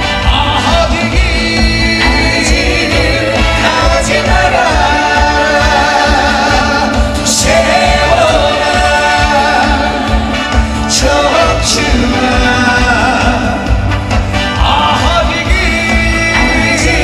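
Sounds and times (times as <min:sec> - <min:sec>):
band playing with low beat: 0:00.0 - 0:17.0.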